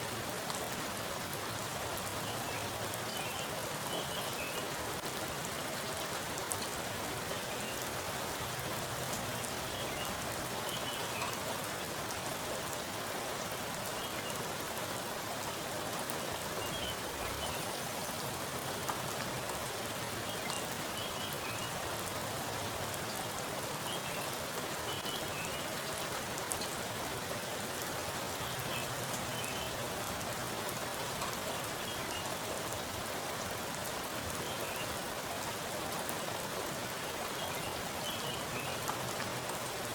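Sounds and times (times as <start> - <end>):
rain splashing into water: 0.0 - 39.9.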